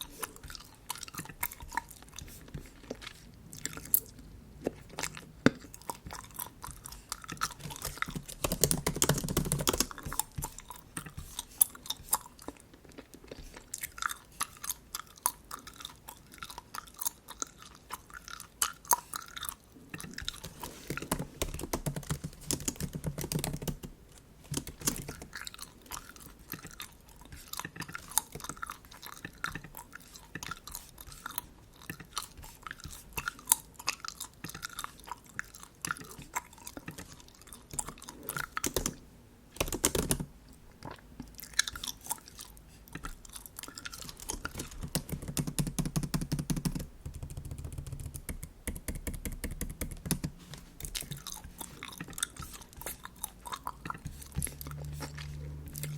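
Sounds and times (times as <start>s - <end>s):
bubble gum chewing: 0.0s - 39.0s, 39.6s - 48.4s, 49.0s - 55.9s.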